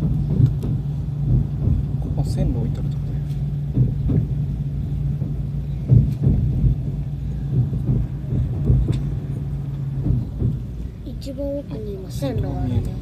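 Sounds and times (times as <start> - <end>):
dull knocks: 0.0 - 11.1
vehicle interior hum: 0.0 - 13.0.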